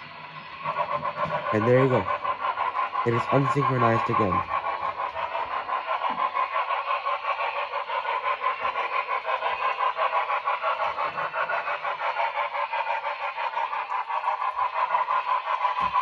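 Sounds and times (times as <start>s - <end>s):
model locomotive steam chuffing: 0.0s - 16.0s.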